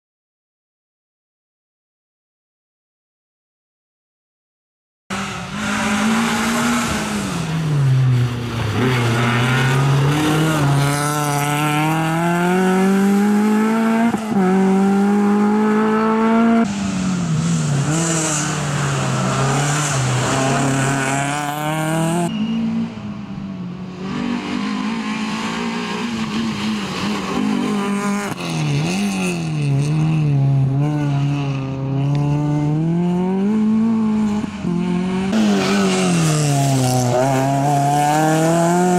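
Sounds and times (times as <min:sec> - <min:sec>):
rally car engine revving hard: 0:05.1 - 0:22.3, 0:24.0 - 0:38.9.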